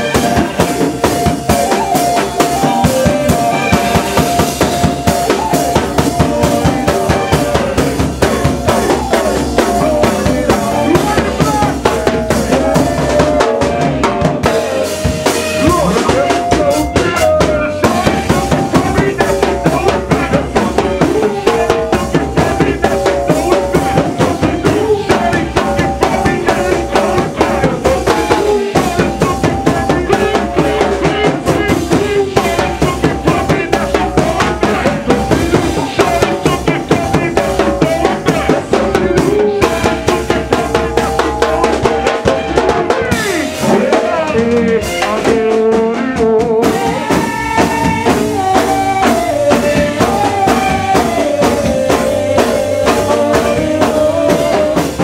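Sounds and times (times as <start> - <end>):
bass guitar: 0.0 - 55.0
drum kit beat: 0.0 - 55.0
held pitched lines: 0.0 - 55.0.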